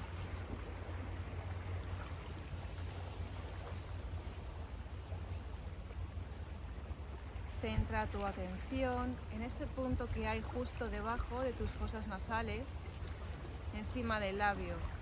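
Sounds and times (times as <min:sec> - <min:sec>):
sea waves washing on beach: 0:00.0 - 0:15.0.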